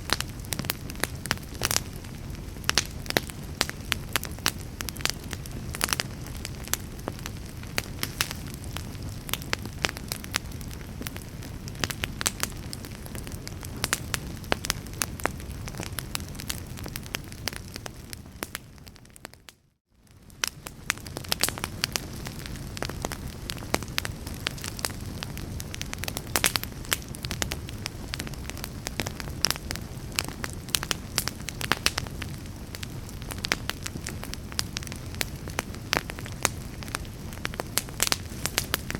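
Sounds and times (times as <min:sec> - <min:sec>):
fire crackling and popping: 0:00.0 - 0:38.9
low rumble of burning: 0:00.0 - 0:38.9.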